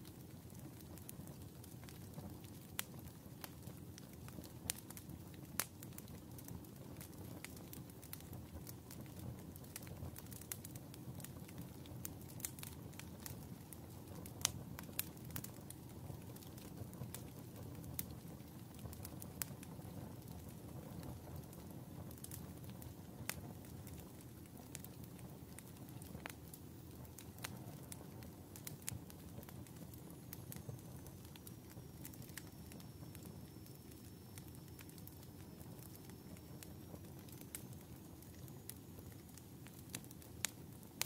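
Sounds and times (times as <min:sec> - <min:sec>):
wood embers crackling and popping: 0:00.0 - 0:41.0.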